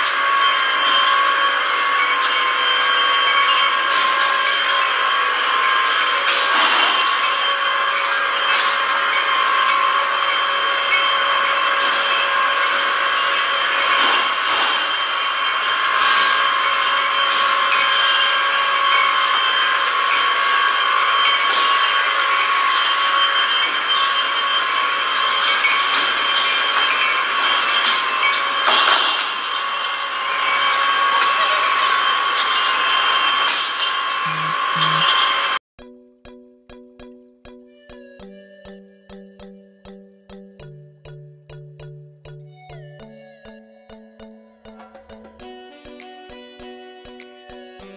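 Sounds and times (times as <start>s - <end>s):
bottling machinery whine: 0.0s - 35.6s, 36.8s - 47.9s.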